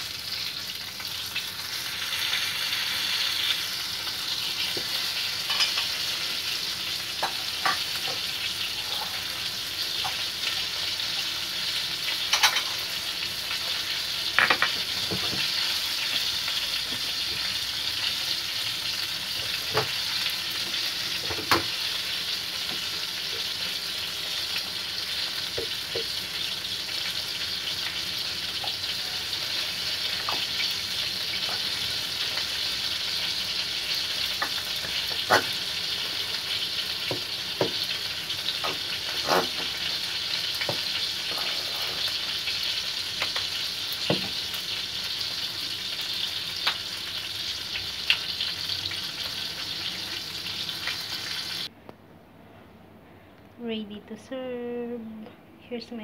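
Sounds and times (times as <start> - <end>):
chicken deep-frying in oil: 0.0 - 51.7.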